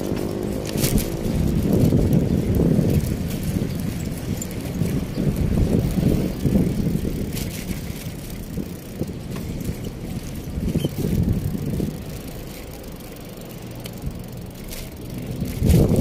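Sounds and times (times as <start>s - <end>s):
bicycle tyres rolling on asphalt: 0.0s - 16.0s
wind buffeting microphone: 0.0s - 16.0s.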